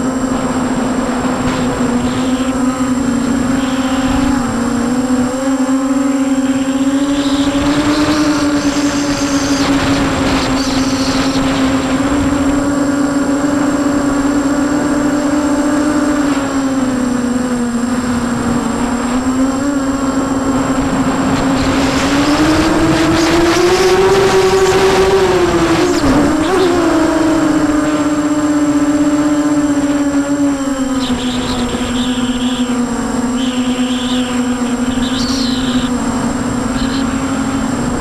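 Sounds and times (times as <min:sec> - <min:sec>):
quadcopter motors humming: 0:00.0 - 0:38.0.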